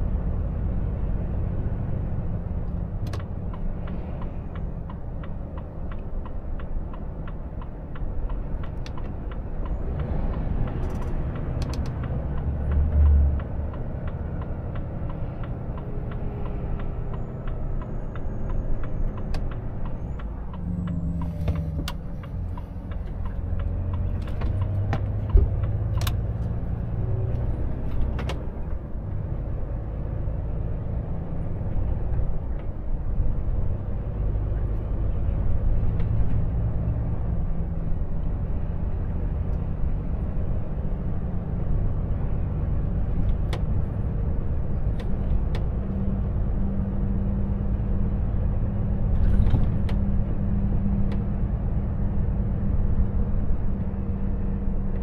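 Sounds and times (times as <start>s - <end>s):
truck cab drivetrain rumble: 0.0s - 55.0s.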